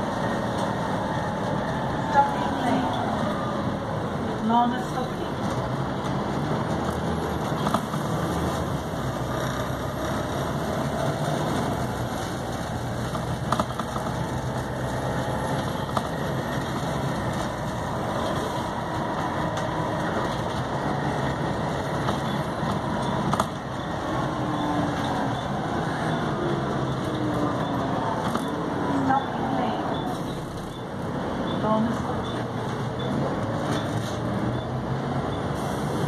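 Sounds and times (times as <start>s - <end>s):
diesel bus engine running: 0.0s - 36.0s.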